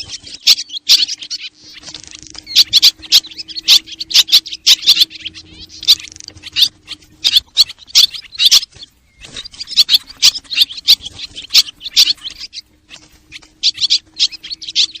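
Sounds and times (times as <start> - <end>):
faint steady hum: 0.0 - 15.0
swallows chirping and twittering: 0.0 - 15.0.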